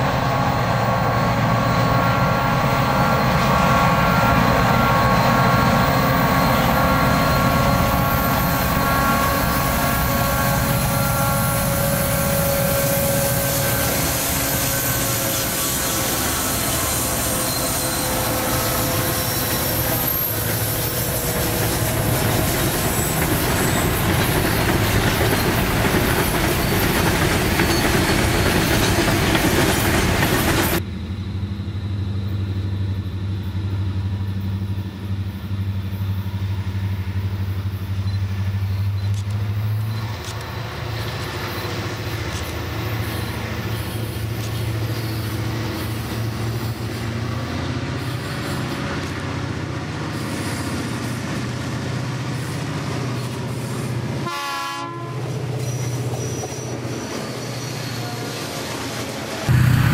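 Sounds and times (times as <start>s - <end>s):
distant locomotive engine drone: 0.0s - 59.9s
freight train rumbling past: 0.0s - 59.9s.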